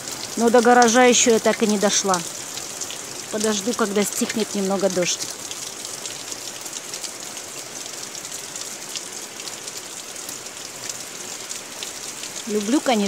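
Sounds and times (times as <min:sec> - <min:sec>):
raindrops ticking close by: 0:00.0 - 0:13.0.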